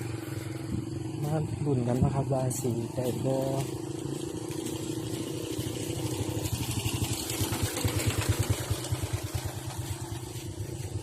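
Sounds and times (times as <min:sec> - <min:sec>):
small engine throbbing: 0:00.0 - 0:11.0.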